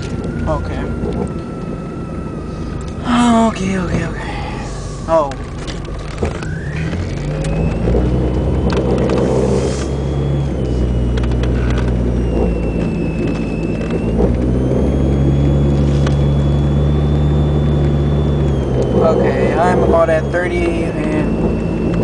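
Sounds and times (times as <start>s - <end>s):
car engine and road noise: 0.0s - 22.0s
thin high whine: 0.0s - 22.0s.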